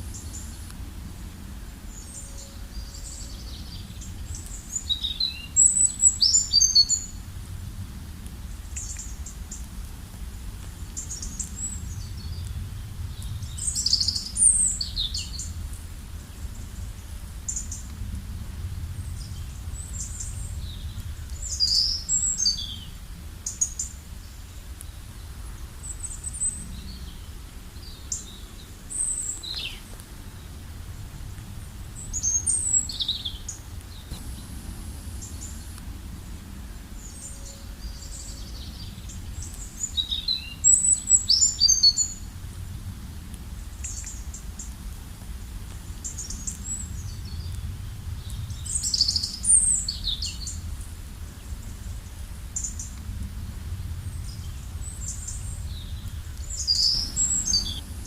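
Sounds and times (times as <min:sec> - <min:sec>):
low steady rumble: 0:00.0 - 0:58.0
songbirds chirping: 0:00.0 - 0:58.0.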